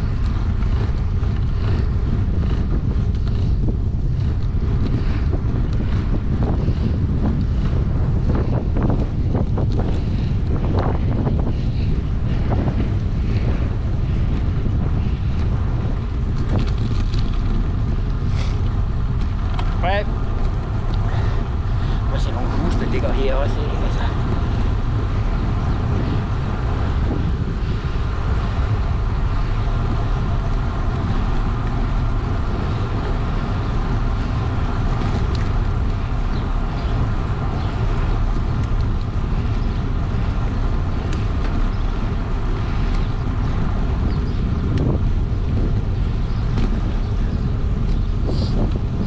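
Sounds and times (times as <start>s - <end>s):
bicycle tyres on asphalt: 0.0s - 49.0s
wind rumble on microphone: 0.0s - 49.0s.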